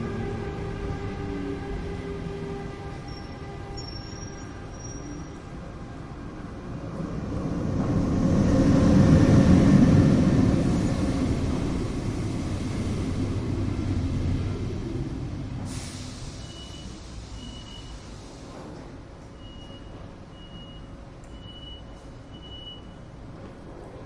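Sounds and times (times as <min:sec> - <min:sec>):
train rumbling past: 0:00.0 - 0:20.2.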